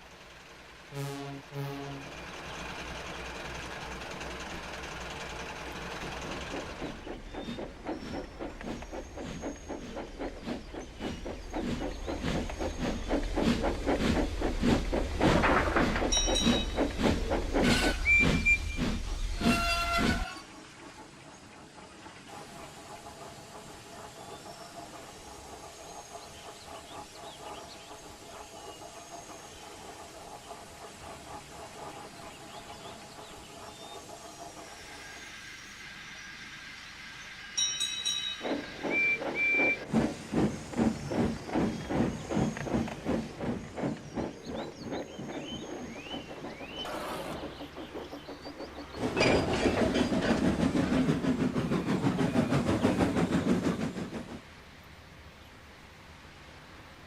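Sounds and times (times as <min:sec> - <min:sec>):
steam hissing: 0:00.0 - 0:54.8
steam locomotive chuffing: 0:00.0 - 0:55.2.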